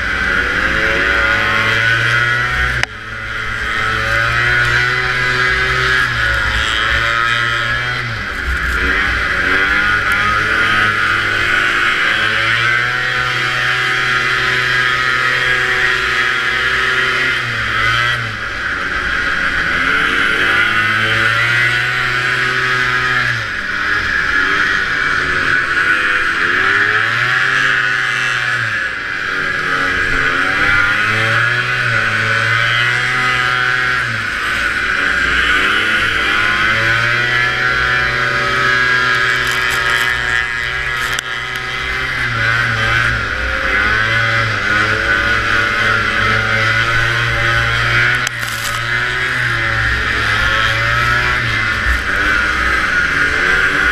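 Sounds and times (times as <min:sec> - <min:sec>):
snowmobile engine revving: 0:00.0 - 0:53.9.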